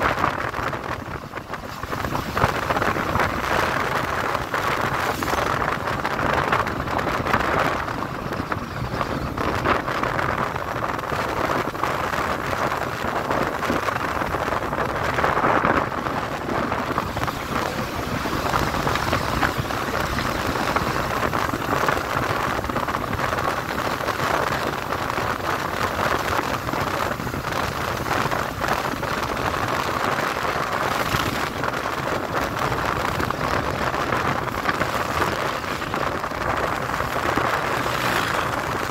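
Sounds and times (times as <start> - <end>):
motorcycle engine and road noise: 0.0 - 38.9
wind on microphone: 0.0 - 38.9.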